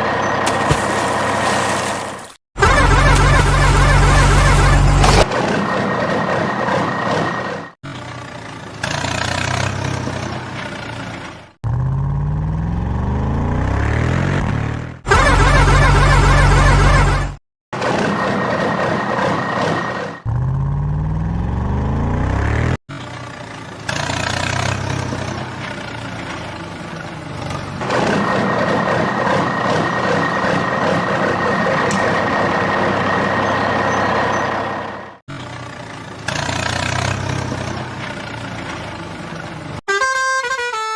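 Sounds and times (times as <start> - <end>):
heavy vehicle engine running: 0.0 - 39.8
engine revving up: 2.6 - 39.8.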